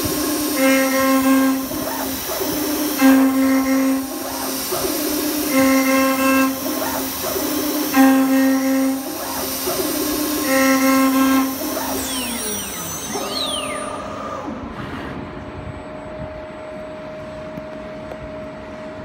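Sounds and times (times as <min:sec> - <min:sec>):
machine motors whining: 0:00.0 - 0:17.2.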